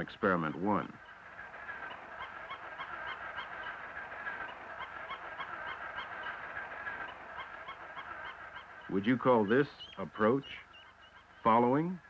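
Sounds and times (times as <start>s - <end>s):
duckling peeping: 0.3s - 12.0s.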